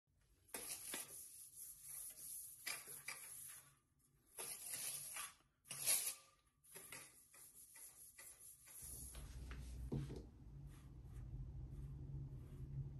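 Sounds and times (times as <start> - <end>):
duster brushing blind slats: 0.5 - 12.9.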